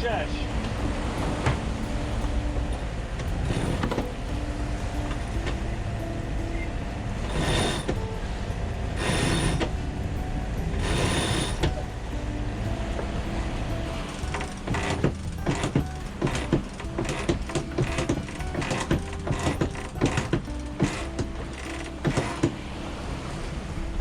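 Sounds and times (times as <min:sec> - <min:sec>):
line running out on winch: 0:00.0 - 0:24.0
rush of wind and water: 0:00.0 - 0:24.0.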